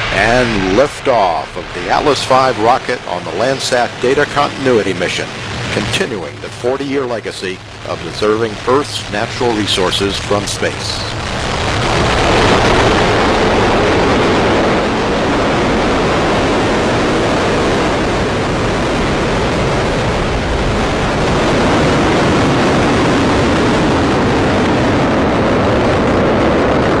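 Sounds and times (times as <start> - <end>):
rocket engine roaring: 0.0 - 27.0.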